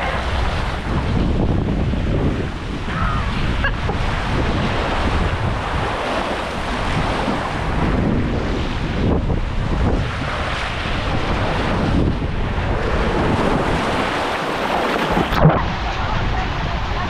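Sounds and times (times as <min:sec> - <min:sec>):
water rushing: 0:00.0 - 0:17.0
wind buffeting microphone: 0:00.0 - 0:17.0.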